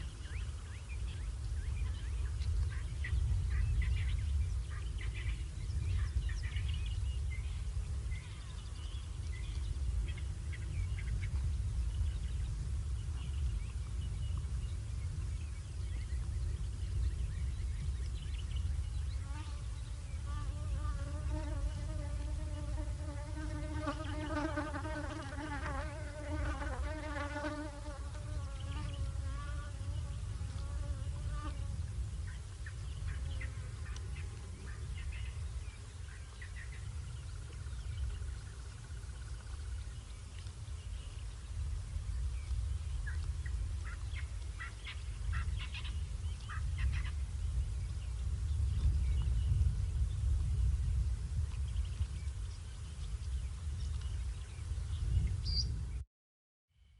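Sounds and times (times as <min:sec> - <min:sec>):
constant low rumble: 0:00.0 - 0:56.0.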